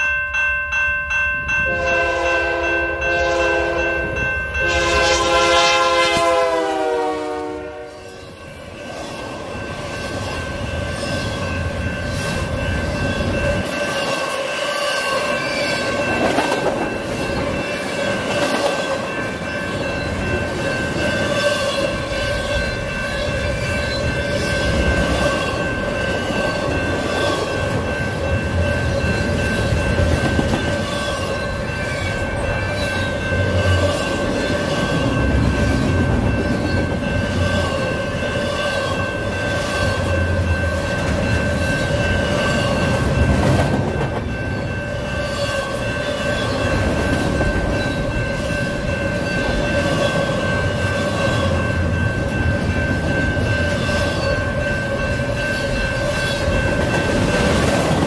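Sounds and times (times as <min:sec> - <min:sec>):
train wheels rumbling and clicking: 0:08.3 - 0:58.0.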